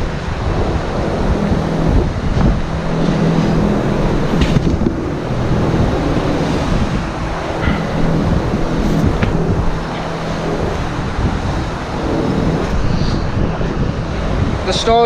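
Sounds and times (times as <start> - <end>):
low mechanical hum: 0.0 - 15.0
rushing wind-like noise: 0.0 - 15.0.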